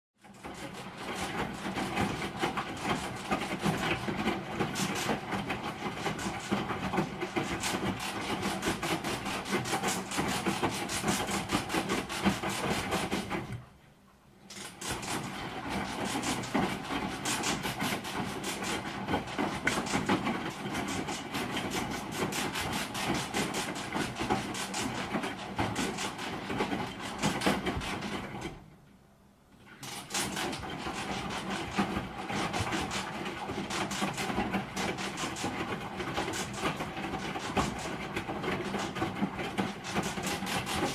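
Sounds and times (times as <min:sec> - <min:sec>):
washing machine rattling: 0:00.2 - 0:13.8, 0:14.5 - 0:28.8, 0:29.6 - 0:40.9
washing machine hum: 0:00.2 - 0:40.9.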